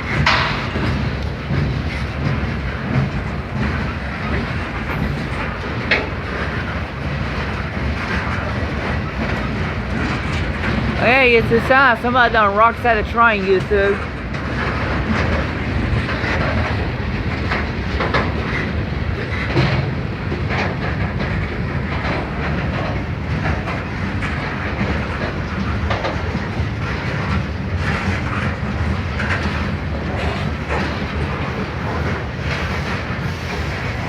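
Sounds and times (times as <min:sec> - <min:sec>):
train wheels clattering over rails: 0:00.0 - 0:34.0.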